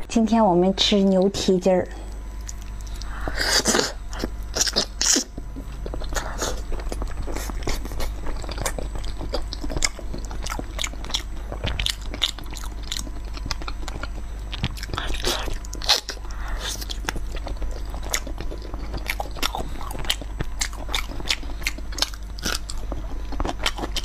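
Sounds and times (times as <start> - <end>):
close-miked chewing and biting: 2.4 - 24.0.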